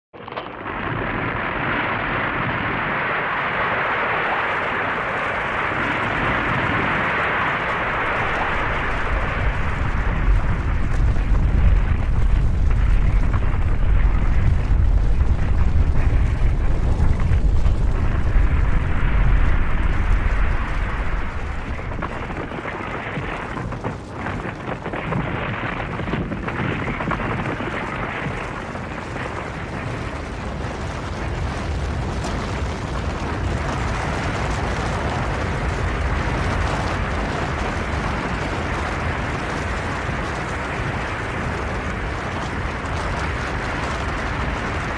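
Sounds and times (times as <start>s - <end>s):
snow avalanche rumble: 0.2s - 44.9s.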